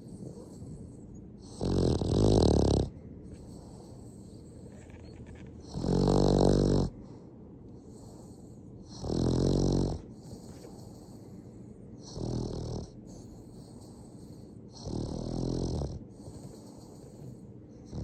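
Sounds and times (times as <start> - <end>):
dog snoring: 0.0 - 7.2, 7.8 - 11.3, 12.0 - 18.0.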